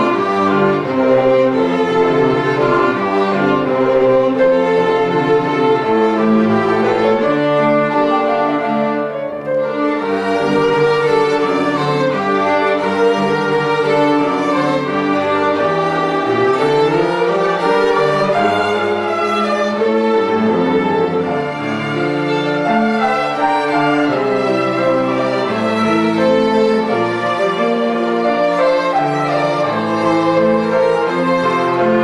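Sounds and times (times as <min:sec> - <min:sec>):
string ensemble playing: 0:00.0 - 0:32.0.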